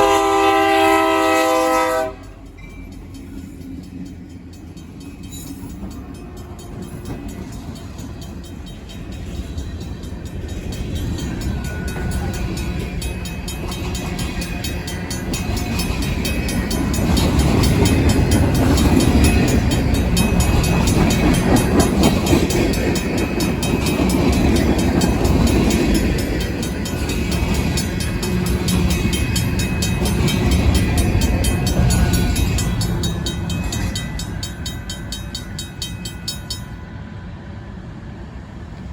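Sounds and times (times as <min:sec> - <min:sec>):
crossing bell ringing: 0:00.0 - 0:37.5
freight train rumbling past: 0:00.0 - 0:38.9.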